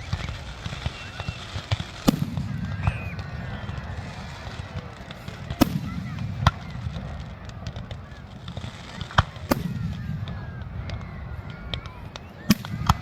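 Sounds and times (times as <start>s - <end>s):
crowd murmur: 0.0s - 13.0s
fireworks bangs: 0.0s - 13.0s.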